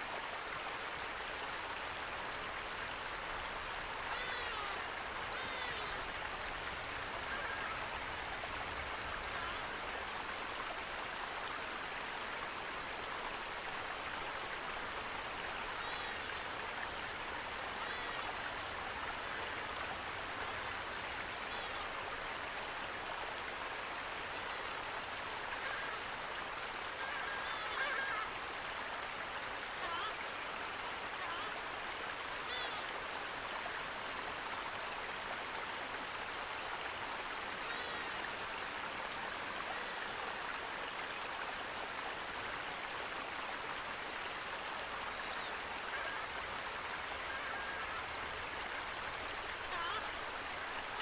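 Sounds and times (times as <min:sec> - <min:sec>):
flowing water rushing: 0:00.0 - 0:51.0.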